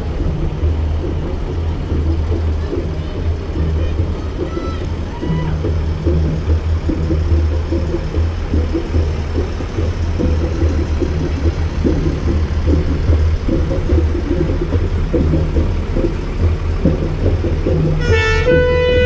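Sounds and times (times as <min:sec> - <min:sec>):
fire engine rumbling past: 0:00.0 - 0:19.0
music with held notes: 0:00.0 - 0:19.0.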